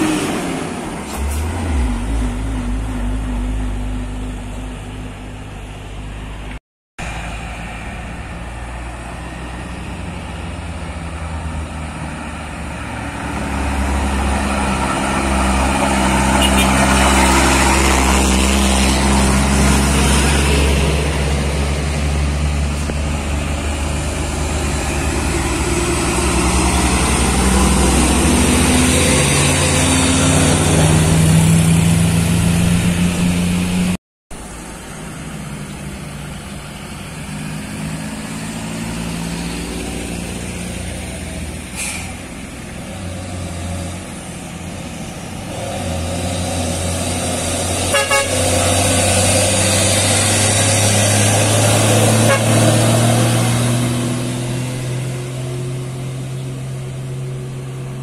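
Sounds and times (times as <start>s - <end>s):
truck diesel engine pulling uphill: 0.0s - 58.0s.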